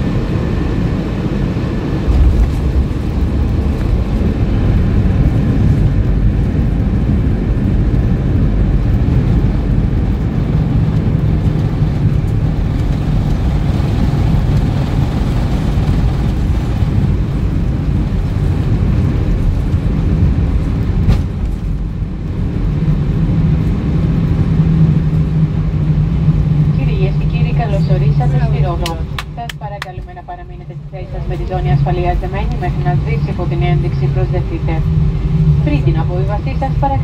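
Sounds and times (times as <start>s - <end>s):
airframe and wheels rumbling: 0.0s - 29.4s, 30.0s - 37.0s
jet engines idling: 0.0s - 37.0s
low hum: 0.0s - 37.0s.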